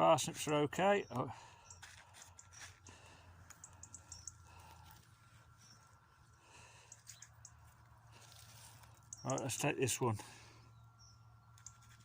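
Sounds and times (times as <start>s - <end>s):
low steady rumble: 0.0s - 12.0s
faint bird chirps: 0.9s - 12.0s.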